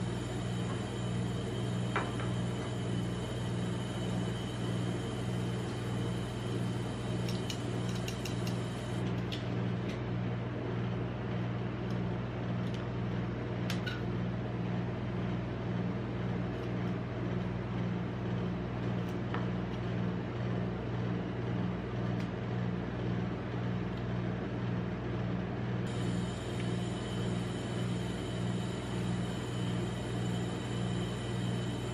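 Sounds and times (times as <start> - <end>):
refrigeration unit humming: 0.0 - 31.9.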